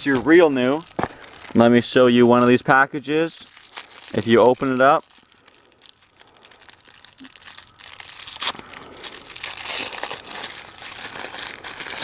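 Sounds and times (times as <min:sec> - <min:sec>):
paper wrapper crinkling and tearing: 0:00.0 - 0:12.0.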